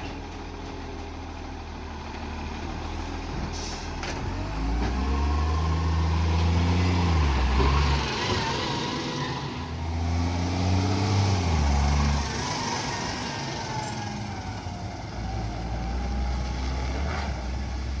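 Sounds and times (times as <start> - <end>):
diesel truck engine revving and idling: 0.0 - 18.0.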